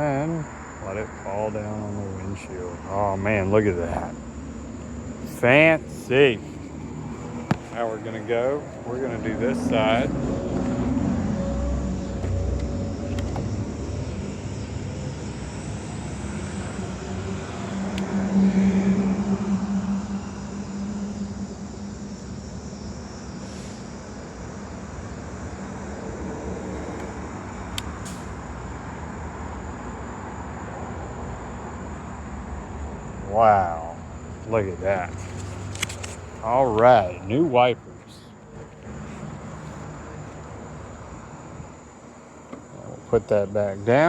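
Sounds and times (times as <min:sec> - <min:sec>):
vehicle engine hum: 0:00.0 - 0:44.0.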